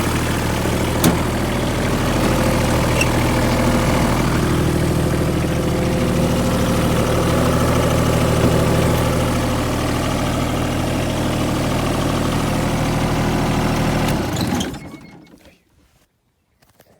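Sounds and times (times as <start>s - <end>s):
diesel engine idling: 0.0s - 15.2s.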